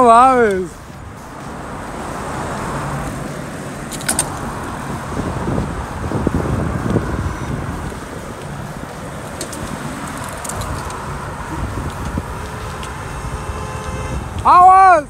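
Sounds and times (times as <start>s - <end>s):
bicycle road noise: 0.0s - 15.0s
car traffic passing: 0.0s - 15.0s
wind rumble: 0.0s - 15.0s.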